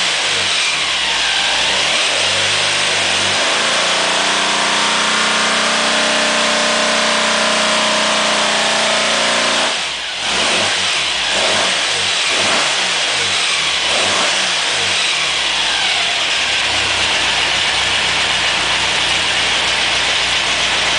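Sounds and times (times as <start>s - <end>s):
car engine revving and idling: 0.0s - 20.9s.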